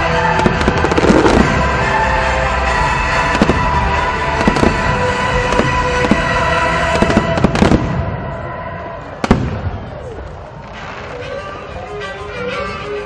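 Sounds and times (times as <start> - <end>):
fireworks bursting with crackling: 0.0 - 8.4, 9.1 - 11.6.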